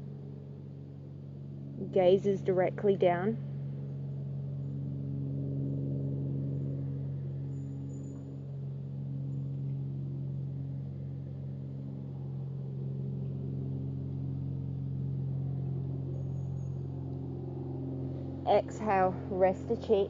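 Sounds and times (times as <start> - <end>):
ambient drone music: 0.0 - 20.0.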